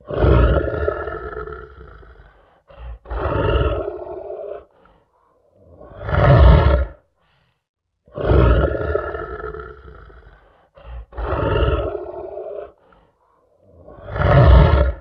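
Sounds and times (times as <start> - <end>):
lion grunt: 0.0 - 7.0, 8.1 - 15.0
lion roaring: 0.0 - 7.0, 8.1 - 15.0.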